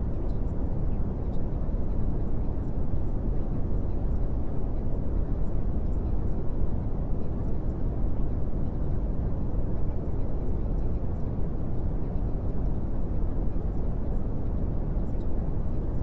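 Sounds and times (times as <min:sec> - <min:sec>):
steady low-pitched noise: 0:00.0 - 0:16.0.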